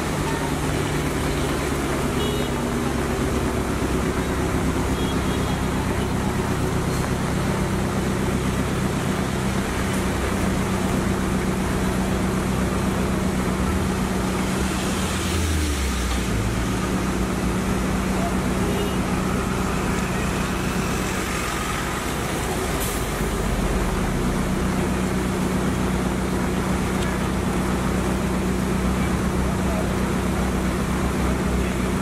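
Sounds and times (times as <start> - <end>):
road traffic noise: 0.0 - 32.0
vehicle engine running: 0.0 - 32.0.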